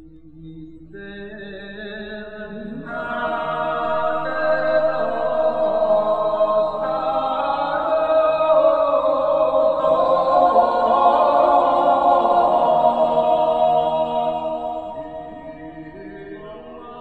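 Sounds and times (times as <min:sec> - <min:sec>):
choir singing chant-like lines: 0:02.7 - 0:17.0.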